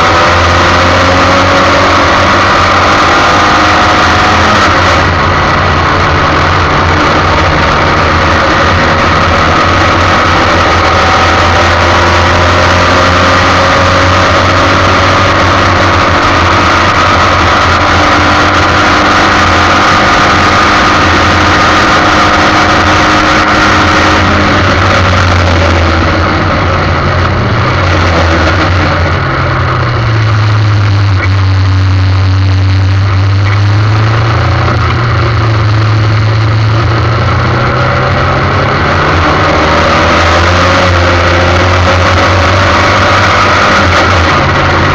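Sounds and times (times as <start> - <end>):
race car engine at high revs: 0.0 - 44.9.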